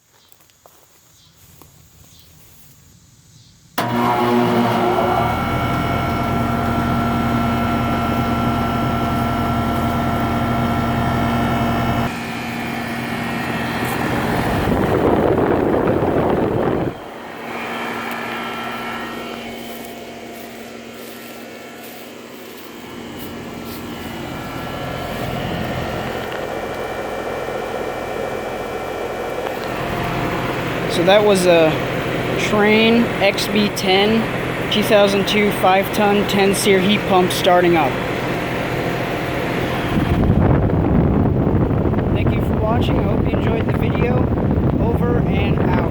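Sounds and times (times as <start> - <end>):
heat pump humming: 3.8 - 45.9.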